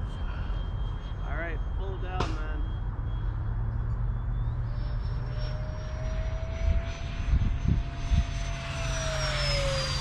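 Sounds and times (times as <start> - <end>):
electric ducted fan whine: 0.0 - 10.0.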